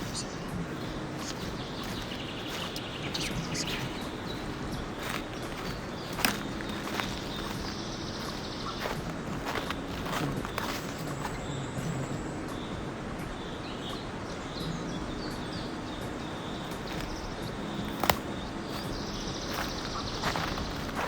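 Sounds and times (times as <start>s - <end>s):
outdoor hiss: 0.0s - 21.0s
small birds chirping: 0.0s - 21.0s.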